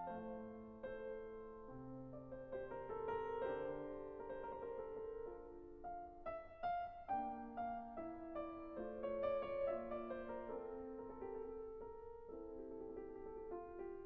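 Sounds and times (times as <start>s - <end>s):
soft slow piano melody: 0.0s - 14.0s.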